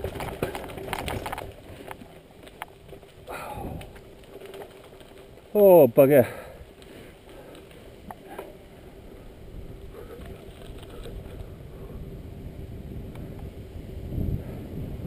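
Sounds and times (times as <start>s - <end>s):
bike clicks: 0.0s - 12.1s, 12.7s - 13.6s
bike tyres on gravel: 0.0s - 15.0s.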